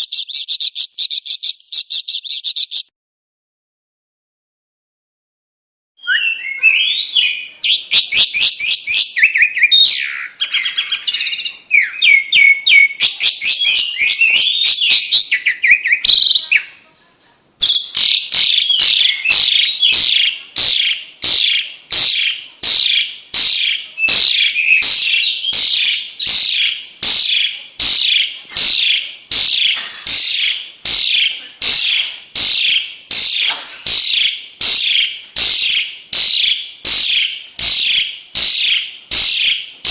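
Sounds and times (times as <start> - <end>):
songbird twittering: 0.0 - 2.9, 6.0 - 39.9.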